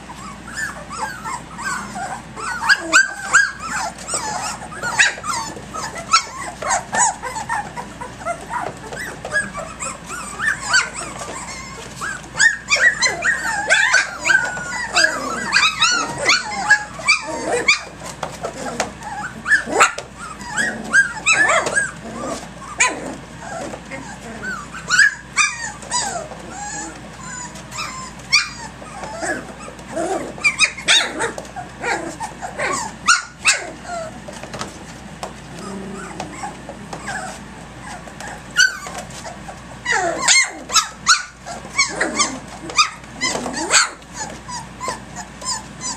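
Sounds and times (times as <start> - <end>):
paws clicking on plastic crate: 0.0 - 45.9
puppies yipping and whining: 0.0 - 45.9.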